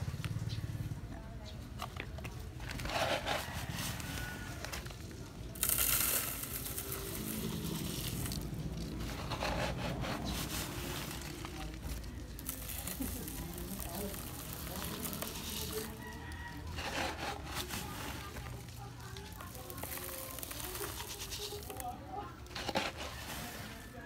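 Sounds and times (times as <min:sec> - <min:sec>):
sand pouring through mesh sieve: 0:02.6 - 0:24.0.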